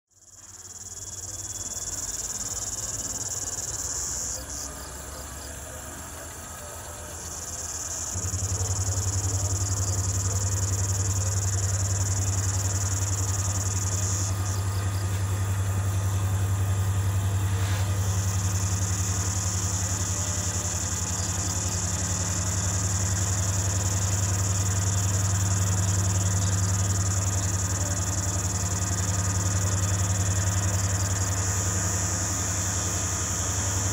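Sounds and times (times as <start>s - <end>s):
diesel locomotive engine drone: 0.2s - 33.9s
insects shrilling: 0.2s - 33.9s.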